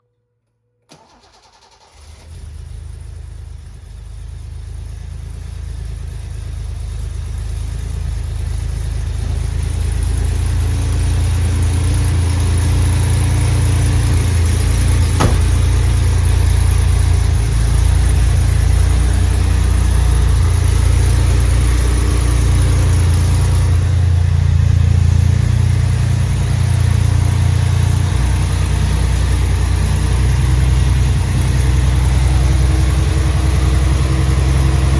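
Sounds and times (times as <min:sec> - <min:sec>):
car engine starting and running: 0:00.9 - 0:34.9.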